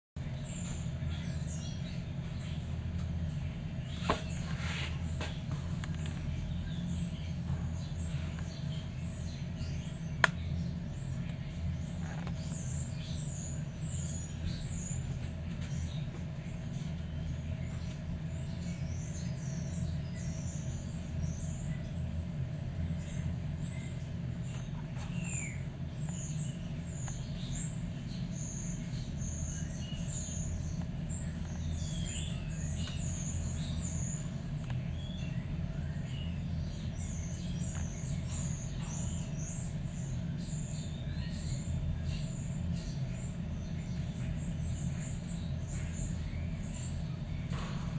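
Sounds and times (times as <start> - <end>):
steady low hum: 0.2 - 47.9.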